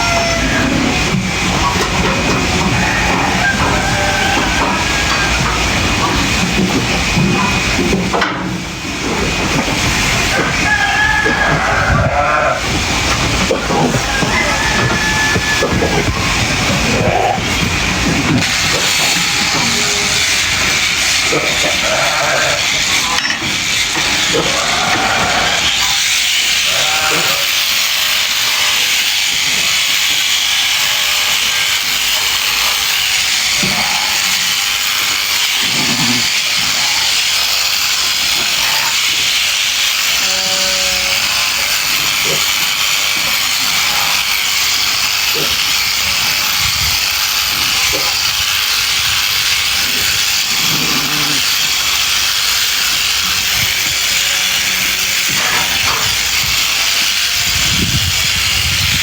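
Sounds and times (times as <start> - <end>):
electric clippers running: 0.0 - 10.6, 12.3 - 59.0.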